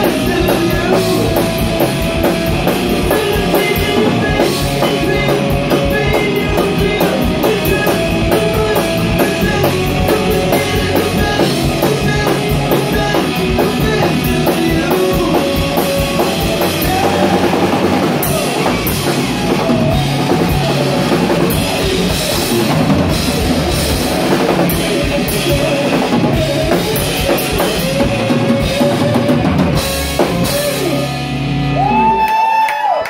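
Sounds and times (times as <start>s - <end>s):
person singing: 0.0s - 2.0s, 2.6s - 31.2s
distorted electric guitars: 0.0s - 33.0s
drum kit: 0.0s - 33.0s.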